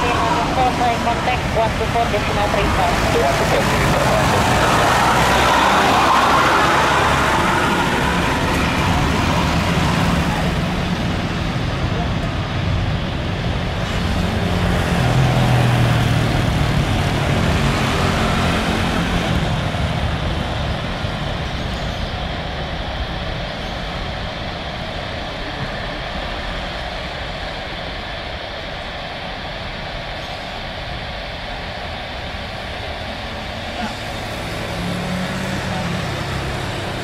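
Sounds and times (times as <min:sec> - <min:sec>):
jet engines at takeoff: 0:00.0 - 0:37.0.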